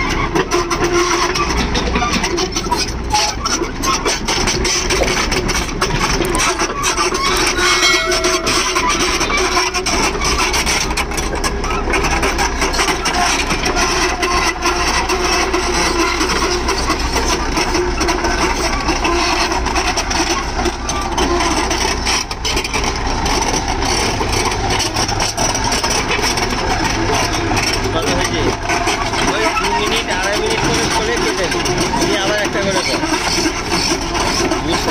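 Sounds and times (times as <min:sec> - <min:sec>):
excavator diesel engine running: 0:00.0 - 0:34.9
steel crawler tracks: 0:00.0 - 0:34.9.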